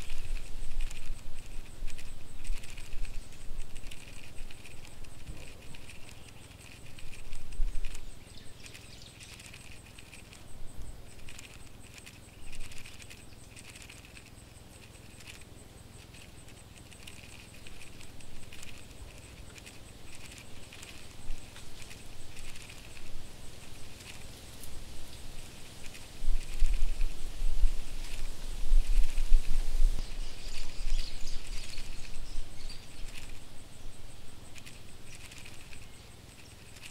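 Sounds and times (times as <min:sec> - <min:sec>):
cockroaches scuttling: 0:00.0 - 0:36.9.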